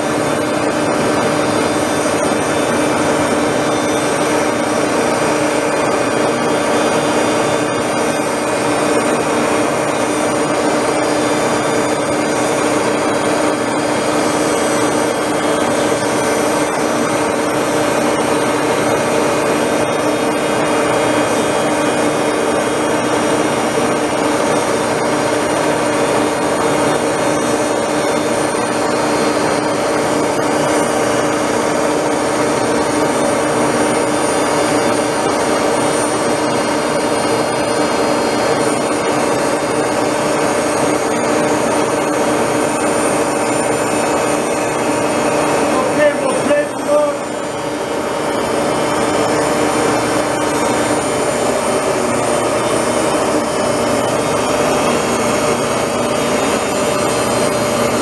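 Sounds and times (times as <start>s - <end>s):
grinder motor whine: 0.0s - 58.0s.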